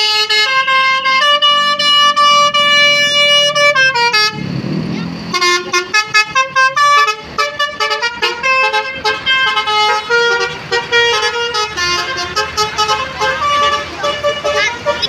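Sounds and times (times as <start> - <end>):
musical bus horn tune: 0.0 - 4.5, 5.3 - 15.0.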